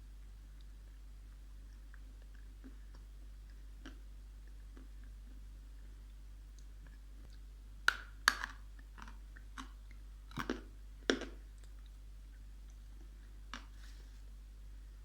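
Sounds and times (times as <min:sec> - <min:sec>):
crunching and chewing clay: 0:00.5 - 0:14.2.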